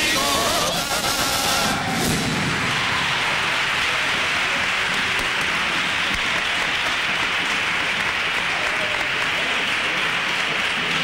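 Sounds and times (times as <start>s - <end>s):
crowd applauding: 0.2s - 11.0s.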